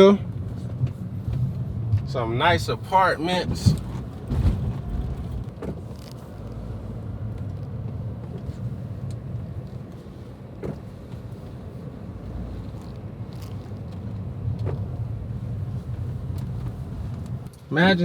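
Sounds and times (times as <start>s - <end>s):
car road rumble from inside: 0.0s - 18.0s.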